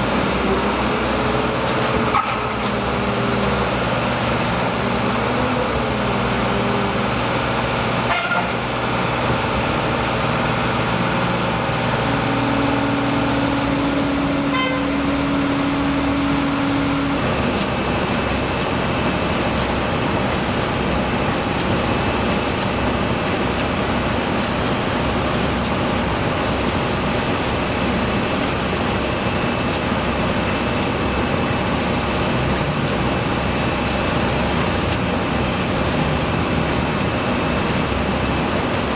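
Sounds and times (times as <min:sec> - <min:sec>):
vehicle engine noise: 0:00.0 - 0:38.9.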